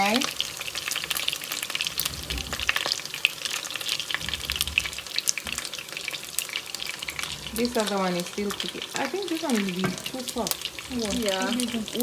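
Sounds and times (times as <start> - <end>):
chicken frying with pops: 0.0 - 12.0.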